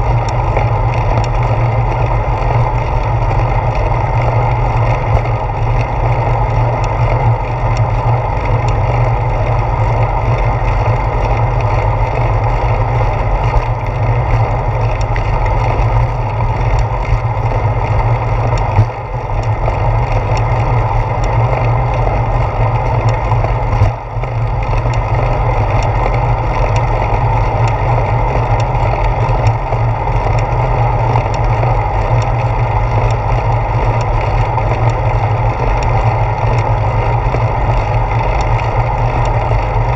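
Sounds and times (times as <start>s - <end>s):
road rumble from bicycle: 0.0s - 39.9s.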